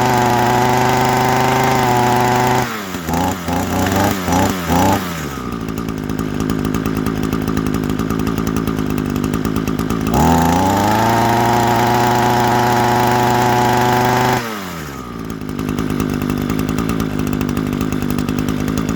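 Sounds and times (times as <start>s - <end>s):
small engine idling and revving: 0.0s - 18.9s.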